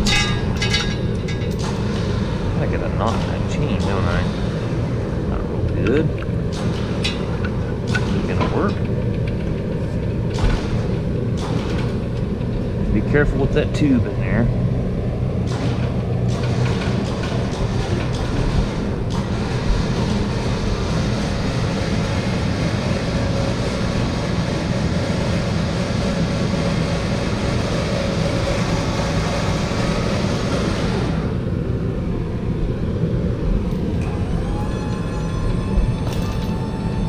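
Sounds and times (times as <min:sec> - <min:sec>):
hydraulic pump whirring: 0:00.0 - 0:37.0
low engine hum: 0:00.0 - 0:37.0.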